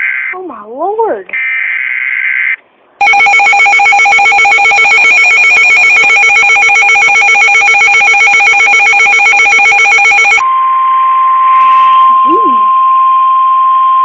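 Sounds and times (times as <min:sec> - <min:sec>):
weather radio alarm trill: 0:01.4 - 0:14.0.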